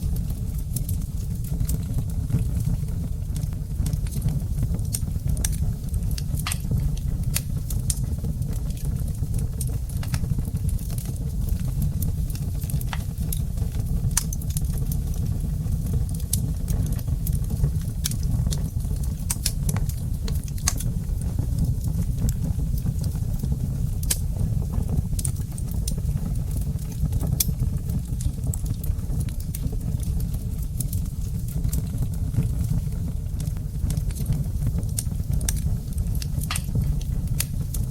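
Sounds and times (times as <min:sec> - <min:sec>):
fire flames rumbling: 0:00.0 - 0:37.9
logs crackling and popping: 0:00.0 - 0:37.9.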